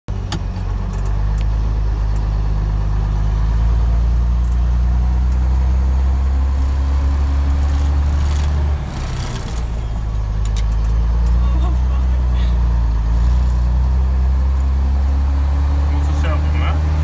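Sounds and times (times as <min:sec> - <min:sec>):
diesel truck engine droning: 0:00.1 - 0:17.0.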